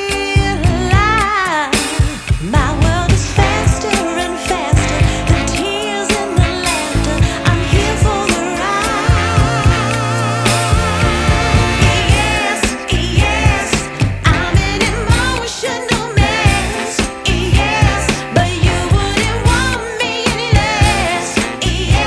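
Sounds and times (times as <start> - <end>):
soul pop song with vocals: 0.0 - 22.0.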